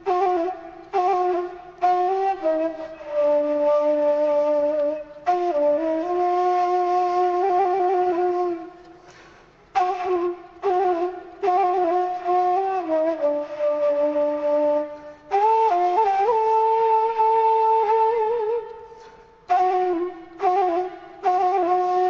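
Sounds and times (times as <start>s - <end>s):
wind instrument slow melody: 0.0s - 22.0s.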